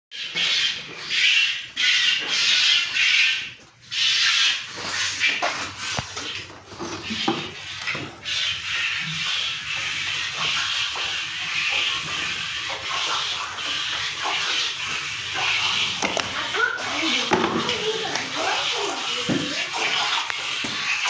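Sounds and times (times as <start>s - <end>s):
milk squirting into bucket: 0.2s - 21.0s.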